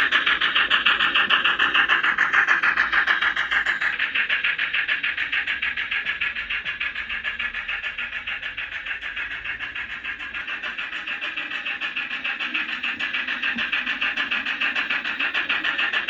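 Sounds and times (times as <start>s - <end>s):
model locomotive steam chuffs: 0.0s - 16.0s.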